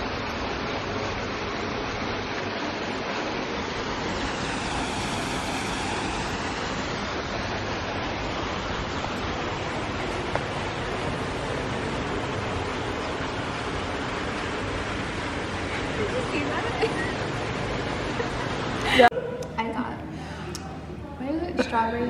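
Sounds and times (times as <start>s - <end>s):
waterfall rushing into pond: 0.0s - 19.1s.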